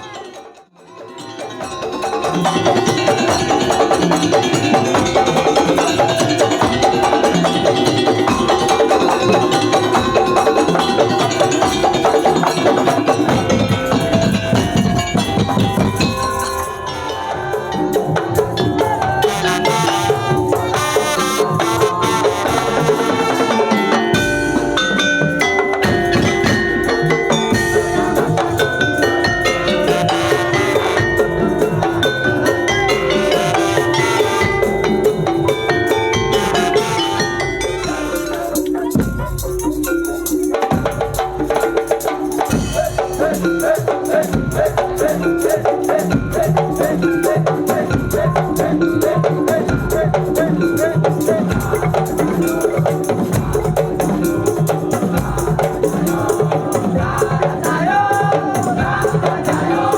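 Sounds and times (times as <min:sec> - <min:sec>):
drums: 0:00.0 - 0:59.9
tuned mallet percussion melody: 0:00.0 - 0:59.9.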